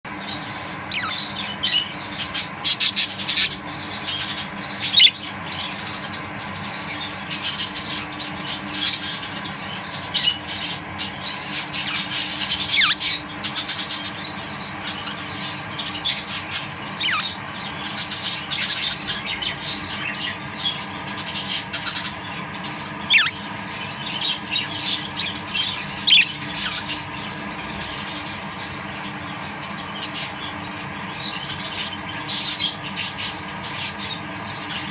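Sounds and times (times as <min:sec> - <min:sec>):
steady low hum: 0:00.1 - 0:32.2
budgerigars chattering and squawking: 0:00.1 - 0:34.9.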